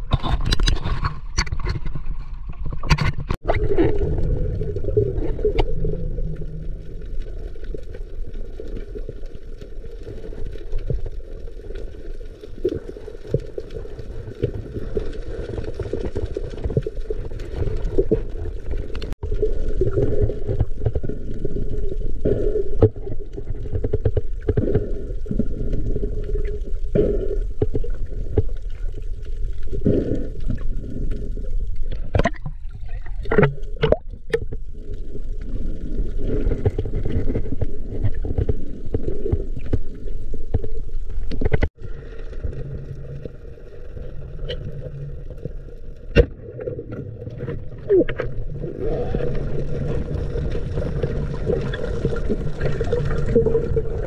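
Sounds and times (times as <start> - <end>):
underwater low rumble: 0.0 - 54.0.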